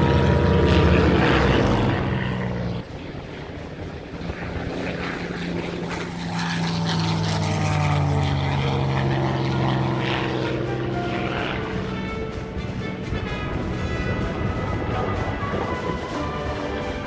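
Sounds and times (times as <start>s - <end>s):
propeller aircraft engine running: 0.0s - 17.0s.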